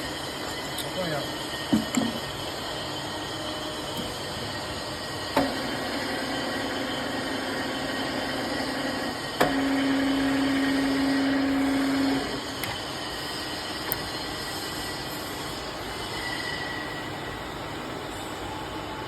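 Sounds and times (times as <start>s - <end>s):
loud steady hum: 0.0s - 19.0s
milling machine whirring: 0.0s - 19.0s.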